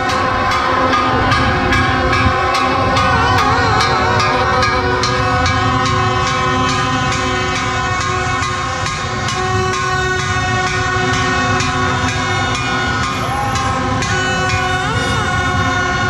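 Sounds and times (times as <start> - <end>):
crowd blowing horns: 0.0 - 16.0.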